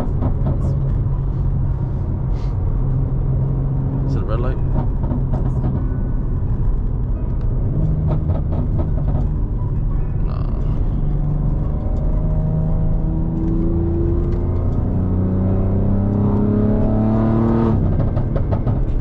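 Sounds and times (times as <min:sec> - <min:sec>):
car engine from inside cabin: 0:00.0 - 0:10.1, 0:10.8 - 0:19.0
road noise: 0:00.0 - 0:19.0.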